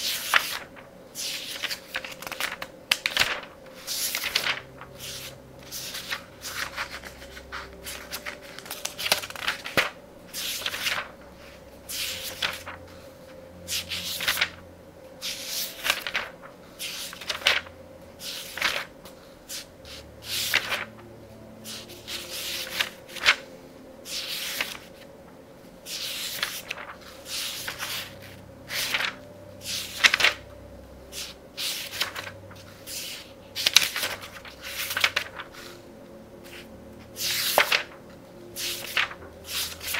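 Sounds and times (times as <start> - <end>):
book pages turning: 0.0 - 30.5, 31.1 - 39.9
faint soft music: 0.0 - 39.9.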